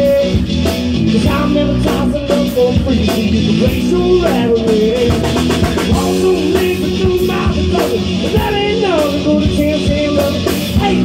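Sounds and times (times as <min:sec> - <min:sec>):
bass guitar: 0:00.0 - 0:11.0
drum kit beat: 0:00.0 - 0:11.0
electric guitars: 0:00.0 - 0:11.0.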